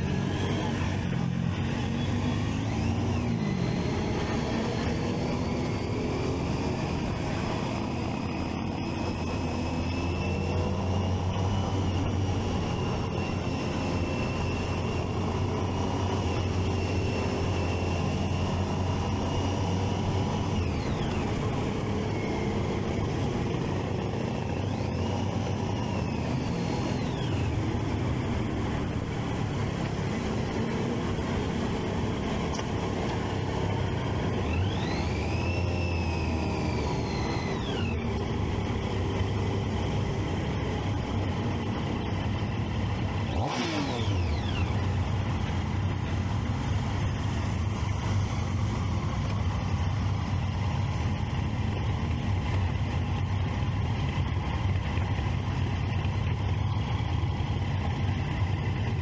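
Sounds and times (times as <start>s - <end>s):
motorcycle engine running: 0.0s - 59.0s
traffic: 0.0s - 59.0s.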